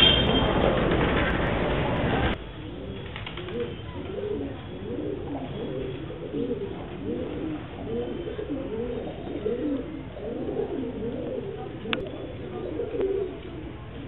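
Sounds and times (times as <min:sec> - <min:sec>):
pigeons cooing: 0:02.3 - 0:14.0.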